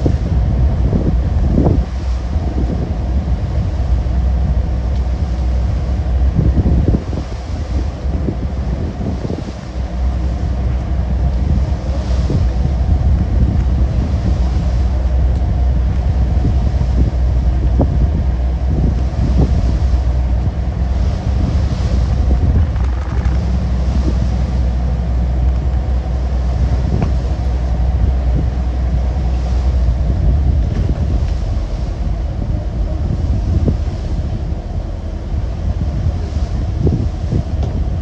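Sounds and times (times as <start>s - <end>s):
boat engine drone: 0.0s - 38.0s
boat wake rushing: 0.0s - 38.0s
waves swelling: 0.0s - 38.0s
wind buffeting microphone: 0.0s - 38.0s.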